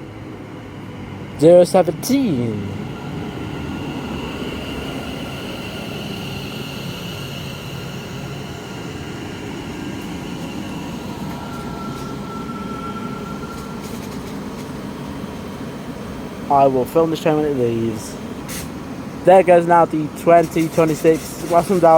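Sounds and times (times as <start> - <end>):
train equipment hum with whine: 0.0 - 21.9.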